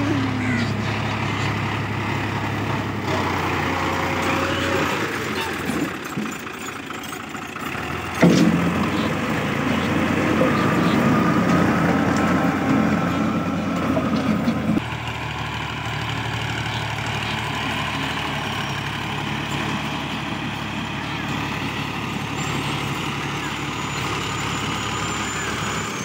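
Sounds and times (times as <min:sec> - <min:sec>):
rotavator churning dry soil: 0:00.0 - 0:26.0
tractor diesel engine running: 0:00.0 - 0:26.0.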